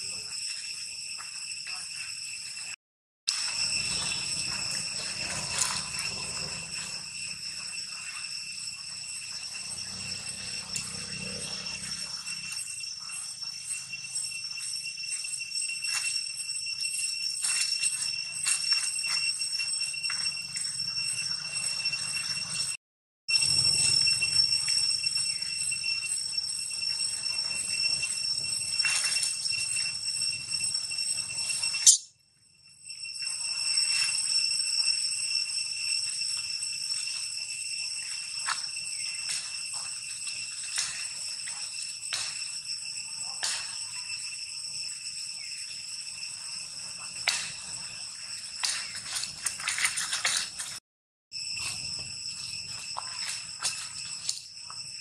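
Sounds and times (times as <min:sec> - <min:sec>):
high-pitched whining drone: 0:00.0 - 0:32.2, 0:32.8 - 0:50.8.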